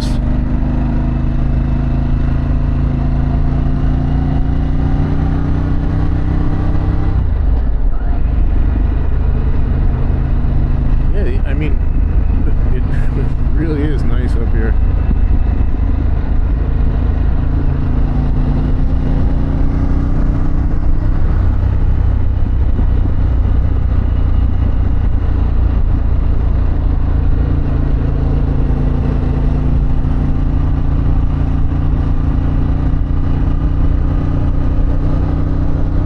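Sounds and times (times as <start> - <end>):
motorcycle engine cruising: 0.0 - 36.0
wind and road noise rumble: 0.0 - 36.0.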